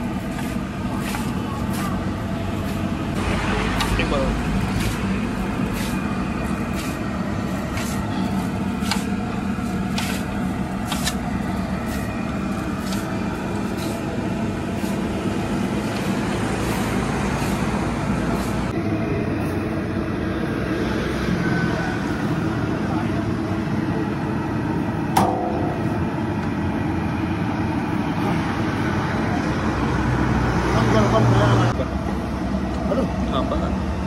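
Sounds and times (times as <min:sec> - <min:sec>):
roadside traffic drone: 0:00.0 - 0:34.0.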